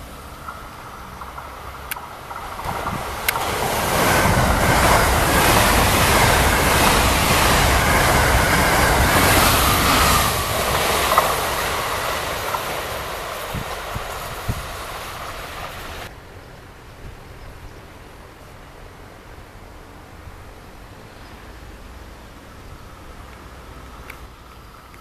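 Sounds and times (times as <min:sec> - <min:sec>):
train passing at high speed: 0:00.0 - 0:25.0.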